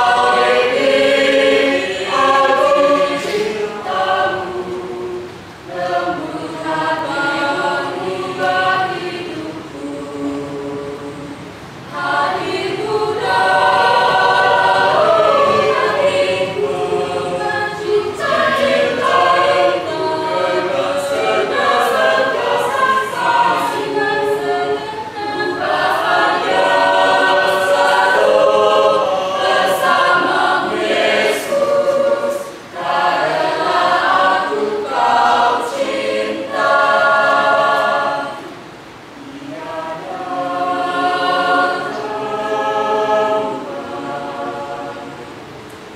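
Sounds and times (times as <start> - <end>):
choir singing: 0.0 - 45.9.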